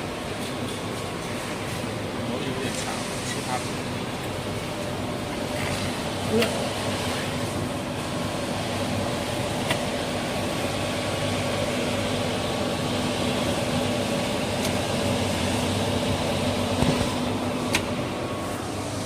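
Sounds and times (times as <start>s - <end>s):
machine hum and blower: 0.0s - 19.0s.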